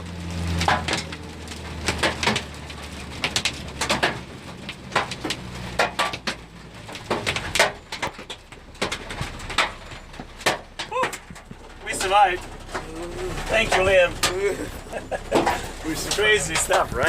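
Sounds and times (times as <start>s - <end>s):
hailstones hitting a truck: 0.0s - 17.0s
truck engine hum: 0.0s - 17.0s.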